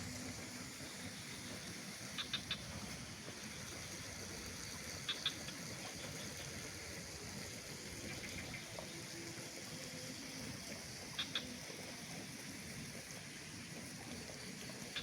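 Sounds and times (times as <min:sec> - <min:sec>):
soft hiss of distant water: 0:00.0 - 0:15.0.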